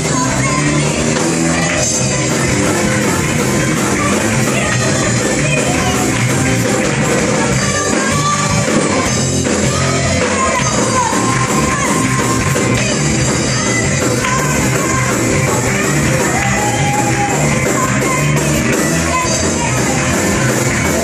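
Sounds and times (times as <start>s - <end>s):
amplified worship band music: 0.0s - 21.0s.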